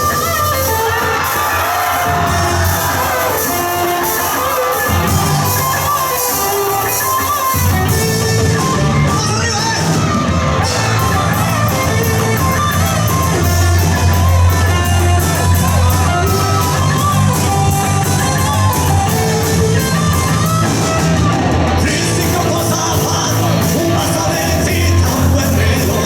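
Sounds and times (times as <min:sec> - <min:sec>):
bass guitar: 0:00.0 - 0:26.0
drum kit with cymbals: 0:00.0 - 0:26.0
strummed electric guitar: 0:00.0 - 0:26.0.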